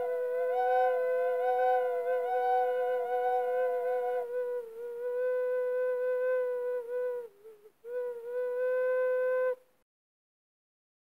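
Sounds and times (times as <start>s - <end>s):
flute playing long notes: 0.0s - 9.6s.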